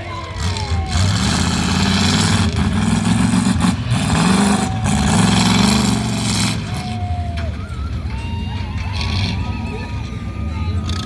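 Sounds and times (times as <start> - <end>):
rushing exhaust noise: 0.0 - 11.0
truck engine under heavy throttle: 0.0 - 11.0.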